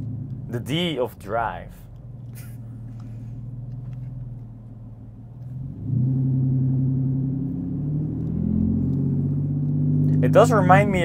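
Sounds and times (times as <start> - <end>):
car exhaust drone: 0.0 - 11.0.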